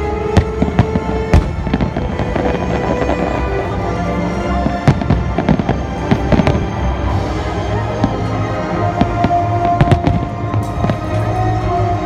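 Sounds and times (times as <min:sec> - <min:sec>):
loud music: 0:00.0 - 0:12.0
fireworks bursting with bangs: 0:00.2 - 0:11.5.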